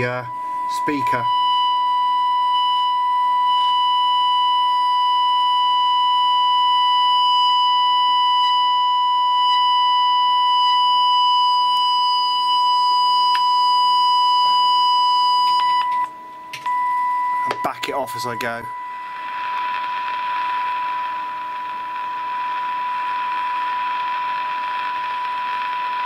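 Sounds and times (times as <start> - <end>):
radio test tone: 0.0 - 26.0.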